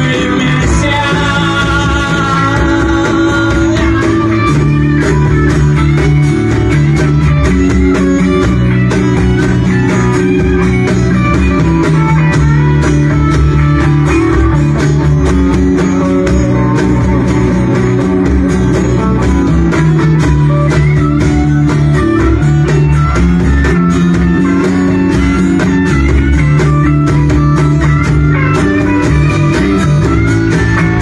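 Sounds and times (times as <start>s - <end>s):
bass guitar: 0.0s - 31.0s
cajon beat: 0.0s - 31.0s
electric guitar lines: 0.0s - 31.0s
strummed acoustic guitar: 0.0s - 31.0s.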